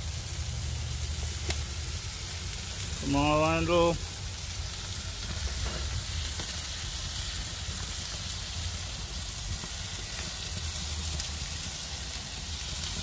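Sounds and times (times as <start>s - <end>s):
chicken sizzling on a grill: 0.0s - 13.0s.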